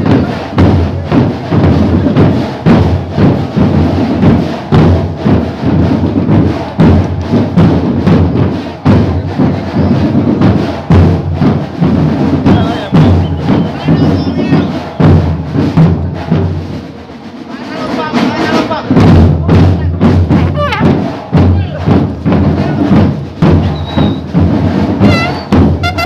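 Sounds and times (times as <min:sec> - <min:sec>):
bass drum thumps: 0:00.0 - 0:16.6, 0:18.8 - 0:26.0
marching band playing: 0:00.0 - 0:26.0.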